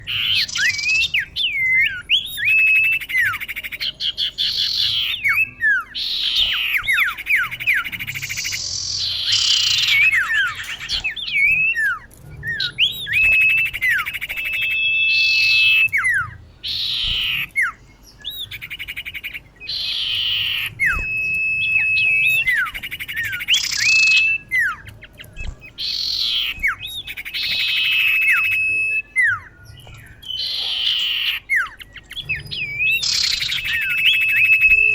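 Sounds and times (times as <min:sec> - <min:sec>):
bird whistling and rasping: 0:00.0 - 0:34.9.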